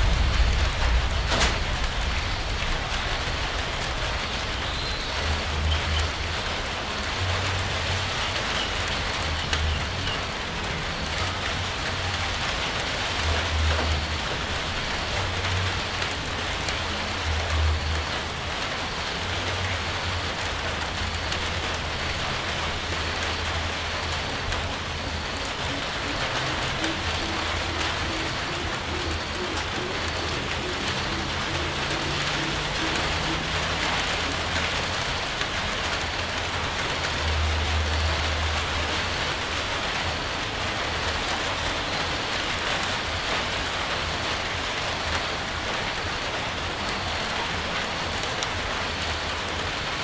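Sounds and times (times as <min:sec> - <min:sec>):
low rumbles: 0:00.0 - 0:42.4
steady rain: 0:00.0 - 0:50.0.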